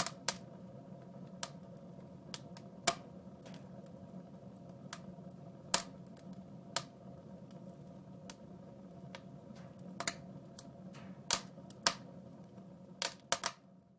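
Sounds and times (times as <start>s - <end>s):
low steady hum: 0.0s - 13.9s
wood fire crackling and popping: 0.0s - 13.9s.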